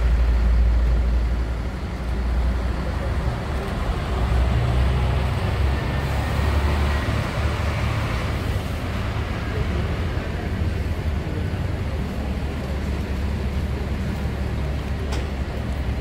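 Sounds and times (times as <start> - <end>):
diesel coach engines rumbling: 0.0 - 16.0.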